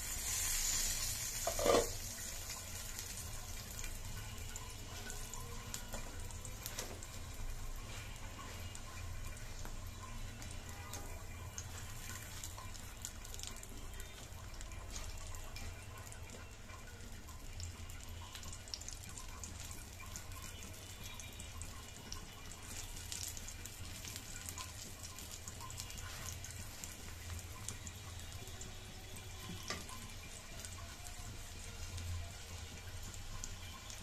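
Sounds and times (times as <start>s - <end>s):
oil sizzling and crackling: 0.0s - 34.0s.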